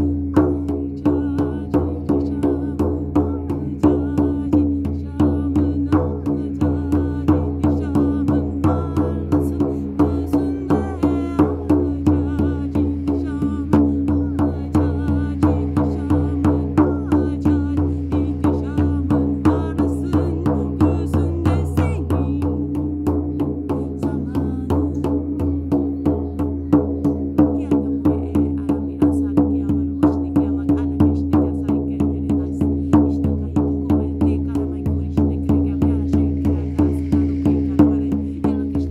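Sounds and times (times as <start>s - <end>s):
drum beaten steadily: 0.0s - 38.9s.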